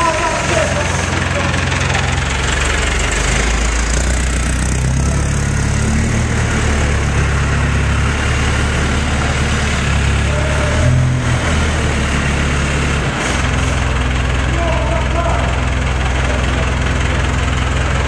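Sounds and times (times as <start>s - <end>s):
fire truck engine idling: 0.0s - 18.0s.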